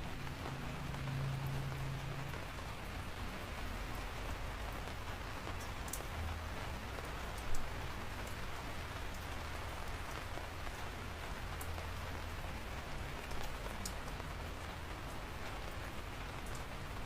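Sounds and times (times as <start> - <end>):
raindrops ticking on a surface: 0.0 - 17.0
steady rain hiss: 0.0 - 17.0.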